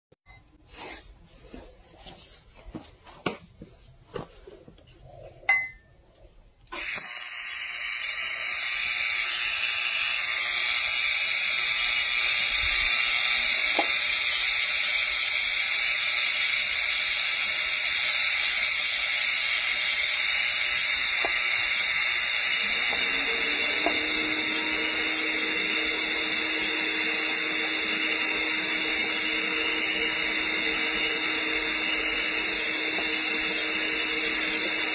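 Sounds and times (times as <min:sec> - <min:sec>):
welding arc hissing: 0:06.7 - 0:34.9.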